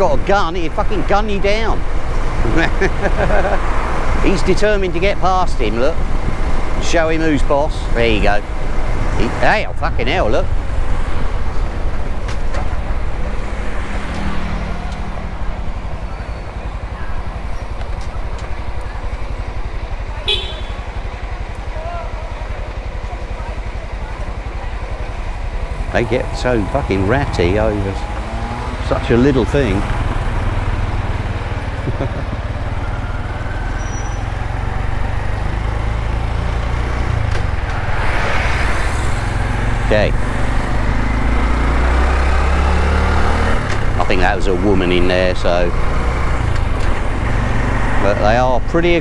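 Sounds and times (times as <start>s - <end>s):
engine hum: 0.0s - 49.0s
road traffic rumble: 0.0s - 49.0s.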